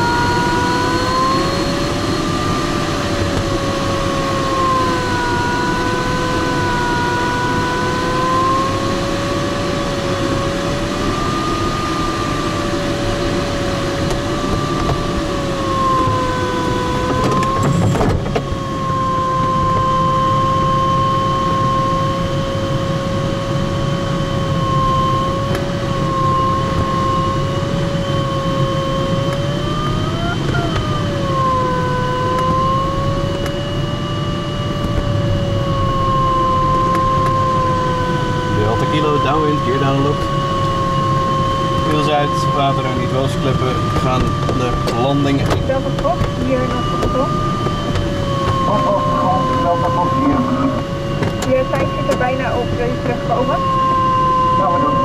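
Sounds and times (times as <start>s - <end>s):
variometer tone: 0.0s - 55.0s.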